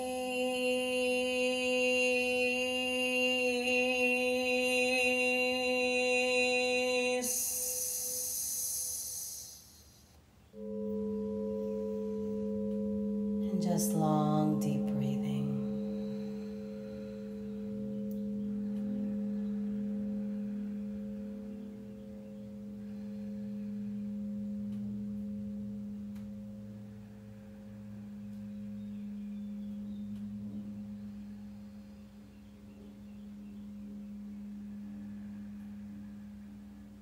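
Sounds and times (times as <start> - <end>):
crystal singing bowl ringing: 0.0 - 37.0.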